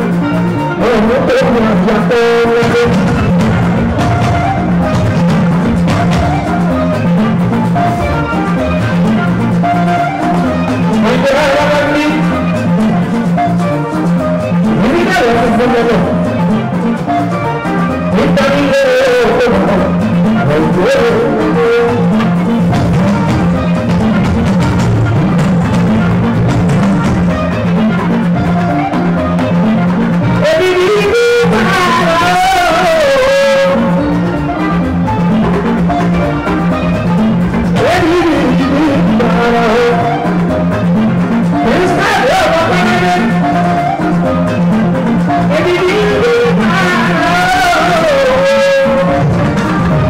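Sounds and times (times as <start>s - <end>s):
drums: 0.0s - 16.8s, 18.0s - 50.0s
live band music: 0.0s - 50.0s
repeating bass line: 0.0s - 50.0s.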